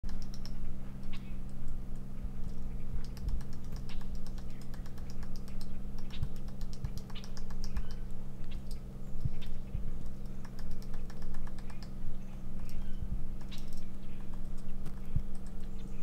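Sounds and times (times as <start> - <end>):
woodpecker pecking at wood: 0.1 - 0.7, 2.4 - 12.8, 13.4 - 15.8
steady low hum: 0.1 - 16.0.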